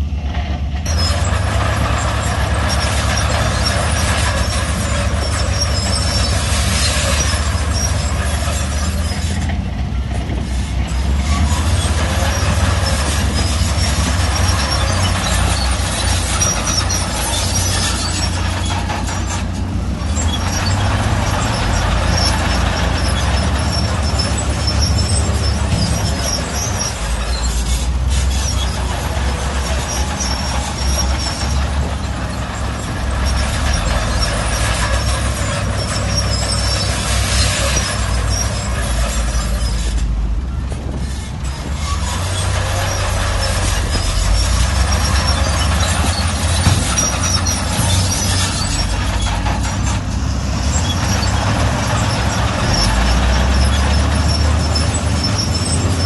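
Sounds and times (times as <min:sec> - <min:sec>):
diesel machinery engine running: 0:00.0 - 0:56.0
high metallic squeaks: 0:00.8 - 0:56.0.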